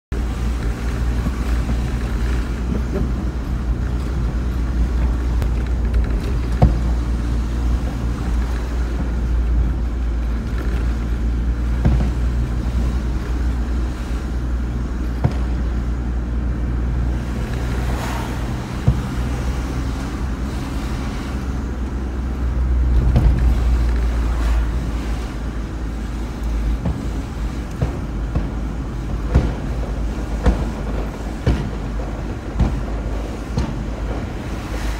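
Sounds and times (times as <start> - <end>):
road and engine rumble in car: 0.0 - 34.9.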